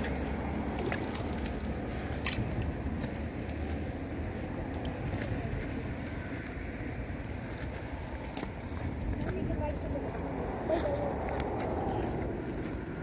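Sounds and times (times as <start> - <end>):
rippling water: 0.0 - 13.0
wind rumble on microphone: 0.0 - 13.0.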